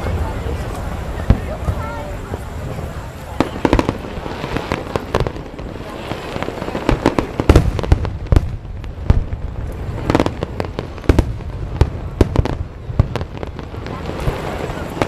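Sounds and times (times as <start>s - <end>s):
continuous rumble and crackle: 0.0s - 15.0s
fireworks booming and cracking: 0.0s - 15.0s.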